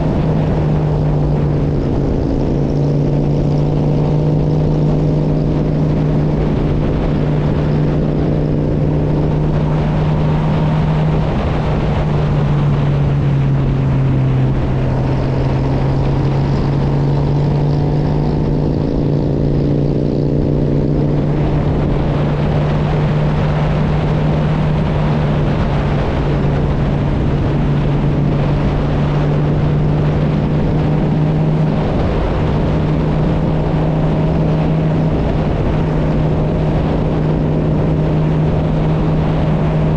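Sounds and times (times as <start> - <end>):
motorcycle engine drone: 0.0 - 39.9
wind and road noise: 0.0 - 39.9.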